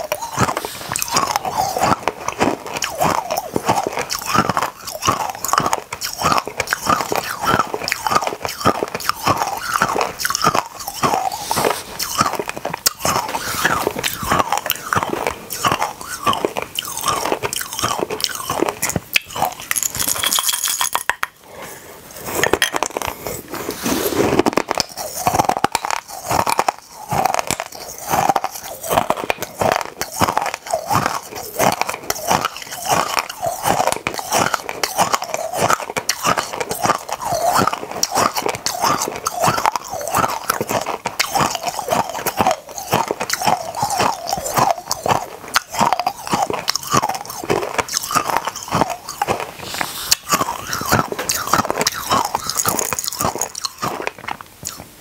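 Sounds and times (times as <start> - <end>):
crunching hard candies: 0.0 - 55.0.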